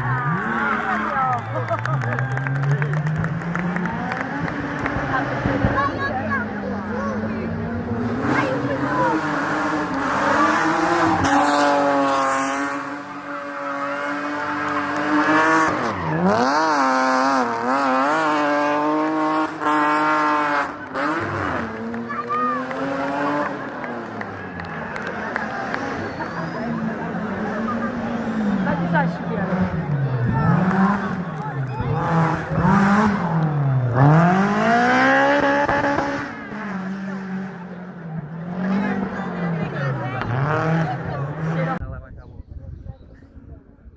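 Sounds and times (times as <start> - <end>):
rally car engine revving: 0.0 - 41.8.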